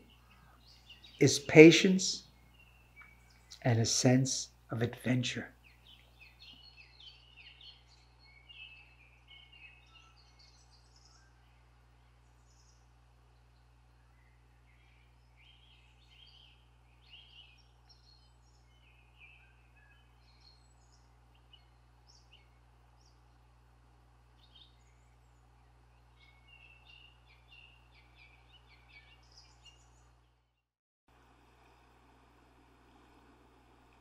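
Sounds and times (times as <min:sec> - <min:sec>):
steady low hum: 0:00.0 - 0:30.5, 0:31.1 - 0:34.0
faint songbirds chirping: 0:00.0 - 0:34.0.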